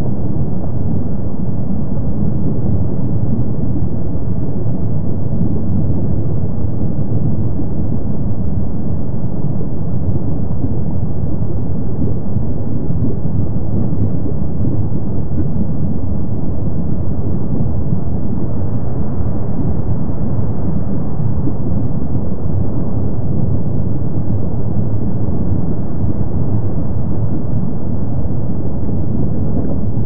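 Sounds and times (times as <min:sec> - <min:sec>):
low rumble of lava fountains: 0:00.0 - 0:30.0.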